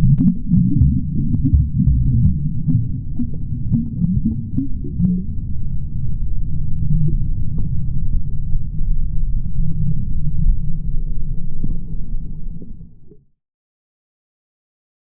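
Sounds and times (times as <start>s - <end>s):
steady low rumble: 0.0s - 13.3s.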